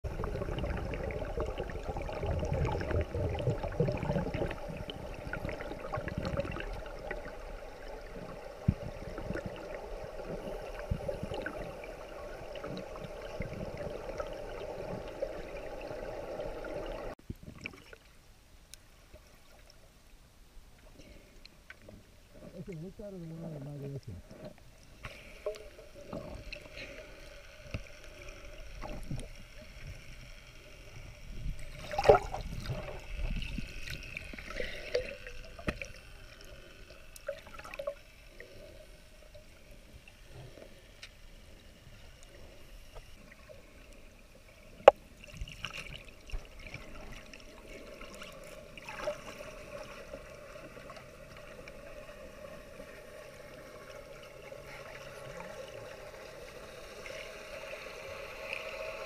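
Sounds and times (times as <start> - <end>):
underwater water sloshing: 0.0 - 18.2, 20.7 - 56.0.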